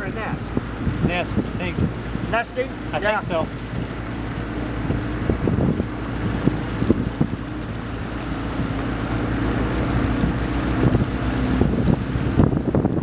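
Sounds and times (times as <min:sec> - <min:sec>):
boat motor running: 0:00.0 - 0:13.0
wind buffeting microphone: 0:00.0 - 0:13.0.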